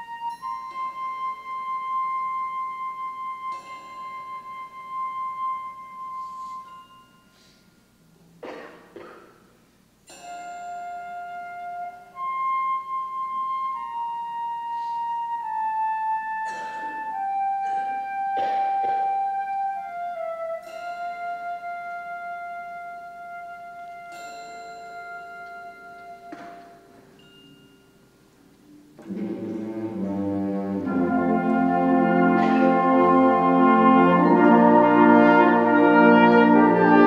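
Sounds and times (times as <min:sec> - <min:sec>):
wind ensemble playing: 0:00.0 - 0:07.5, 0:10.2 - 0:27.3, 0:28.6 - 0:37.0.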